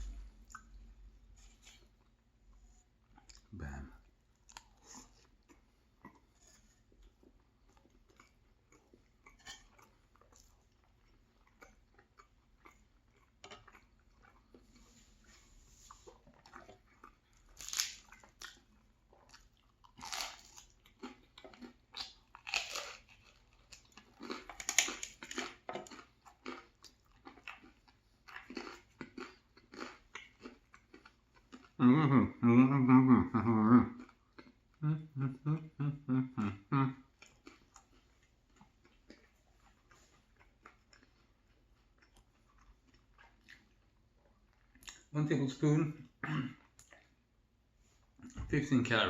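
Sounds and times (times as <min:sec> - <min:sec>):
chewing crusty food: 0:00.1 - 0:35.0, 0:36.7 - 0:47.4.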